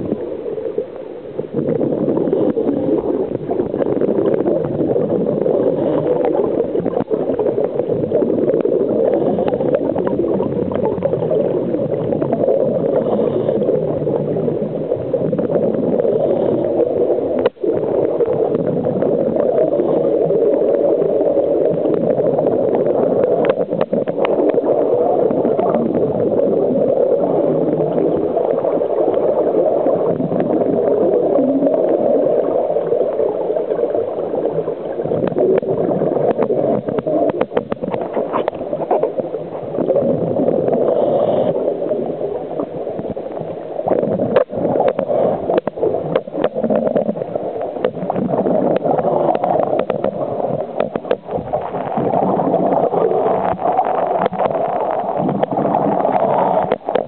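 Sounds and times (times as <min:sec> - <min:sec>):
air bubbles underwater: 0:00.0 - 0:57.0
muffled underwater water rush: 0:00.0 - 0:57.0.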